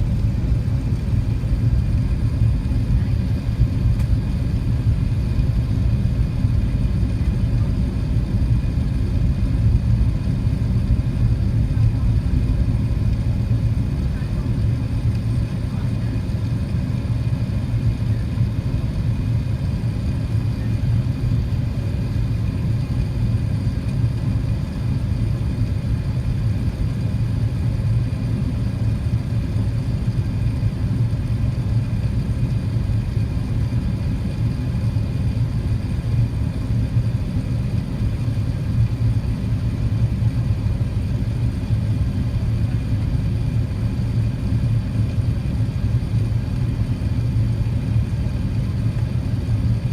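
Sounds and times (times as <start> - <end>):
airliner cabin drone: 0.0 - 49.9.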